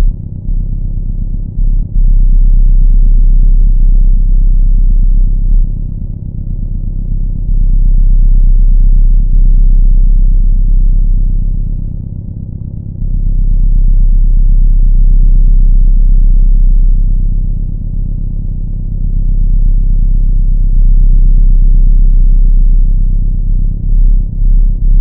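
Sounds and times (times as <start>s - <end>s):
deep rumbling drone: 0.0s - 25.0s.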